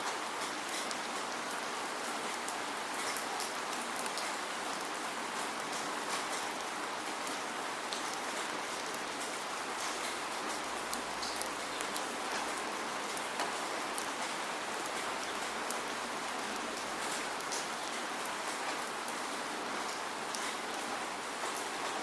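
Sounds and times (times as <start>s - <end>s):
steady rain hissing: 0.0s - 22.0s
sharp raindrop ticks: 3.0s - 20.8s.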